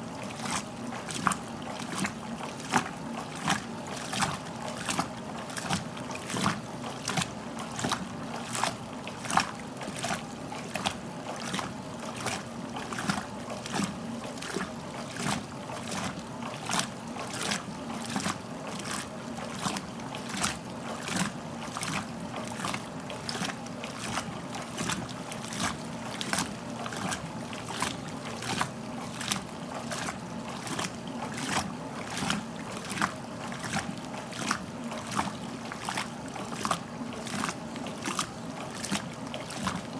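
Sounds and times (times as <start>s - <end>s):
steady motor hum: 0.0s - 39.9s
washing machine water swishing: 0.0s - 39.9s.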